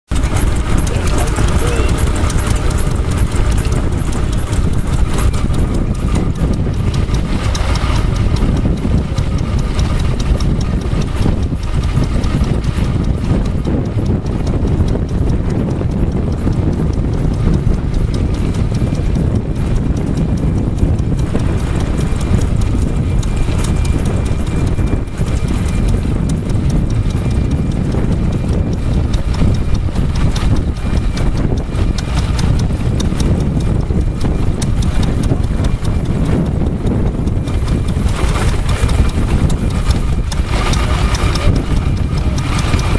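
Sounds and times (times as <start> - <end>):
small engine clattering: 0.0 - 42.9.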